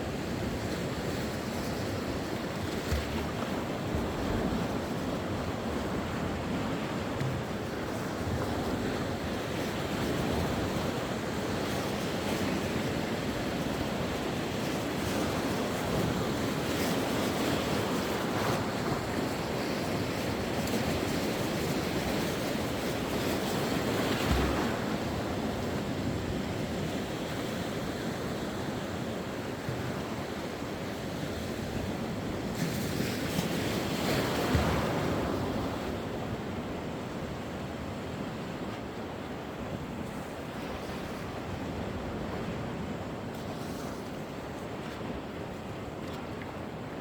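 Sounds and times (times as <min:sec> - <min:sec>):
sea waves breaking on shore: 0:00.0 - 0:47.0.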